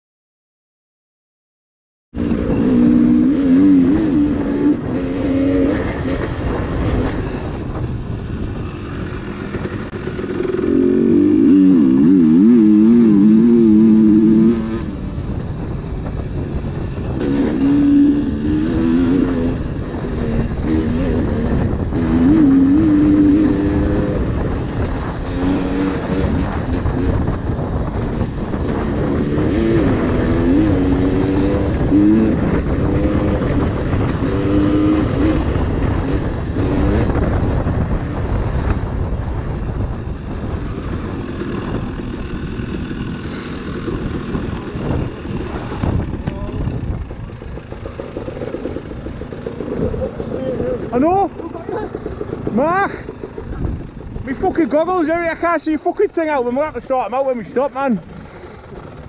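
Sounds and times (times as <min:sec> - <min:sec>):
dirt bike engine revving: 0:02.2 - 0:59.0.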